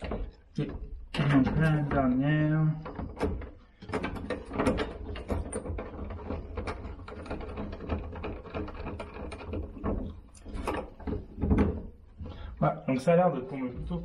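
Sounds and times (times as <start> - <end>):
plastic frame clicks and rattles: 0.0 - 12.4.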